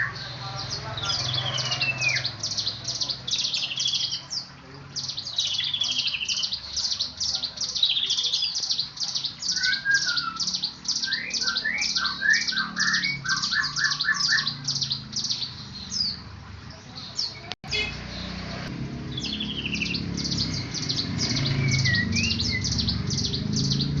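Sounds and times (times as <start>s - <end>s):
songbird chirping: 0.0s - 24.0s.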